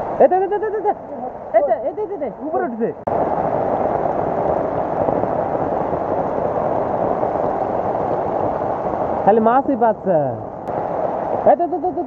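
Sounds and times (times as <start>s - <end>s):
heavy rain falling on water: 0.0s - 12.0s.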